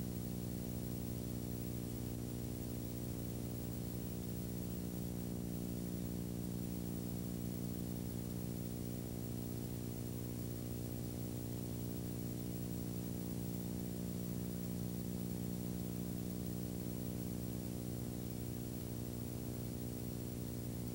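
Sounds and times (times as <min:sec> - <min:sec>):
low electrical hum and buzz: 0:00.0 - 0:20.9.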